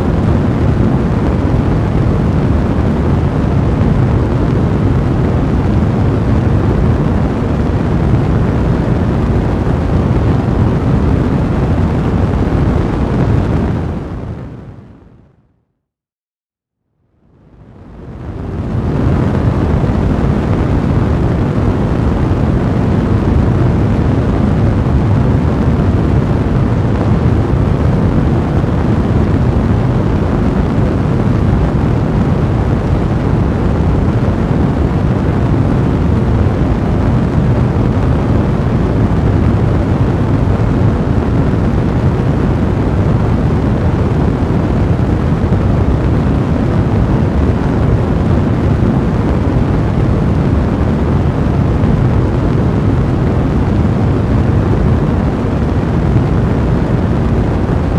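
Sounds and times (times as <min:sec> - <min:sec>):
fire rumbling rush: 0:00.0 - 0:15.0, 0:17.5 - 0:57.9.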